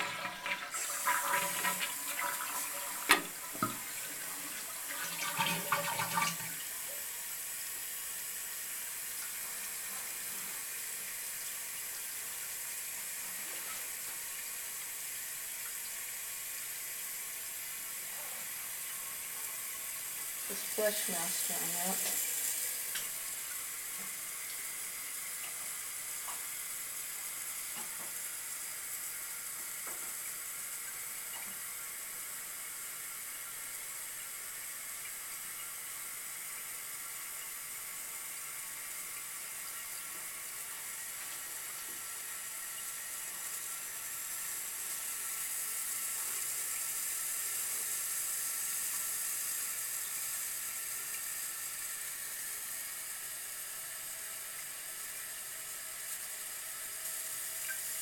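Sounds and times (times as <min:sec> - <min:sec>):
toilet fill valve hissing: 0:00.0 - 0:58.0.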